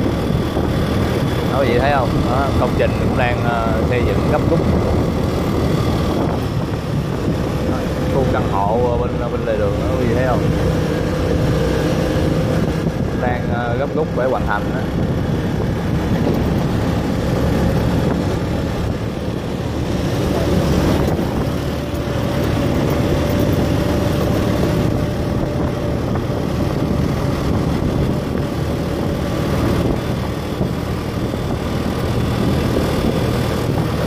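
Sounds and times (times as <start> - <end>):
low engine hum: 0.0 - 34.0
traffic and road noise: 0.0 - 34.0
wind on microphone: 0.0 - 34.0.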